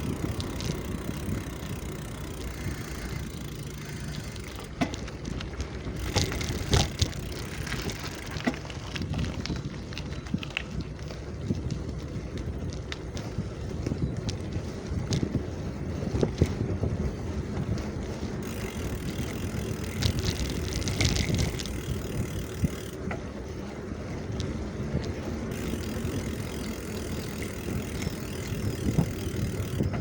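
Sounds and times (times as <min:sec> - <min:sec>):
small clicks and rattles: 0:00.0 - 0:15.4, 0:17.5 - 0:23.3, 0:24.3 - 0:30.0
bicycle rumbling: 0:00.0 - 0:30.0
wind buffeting microphone: 0:00.0 - 0:30.0.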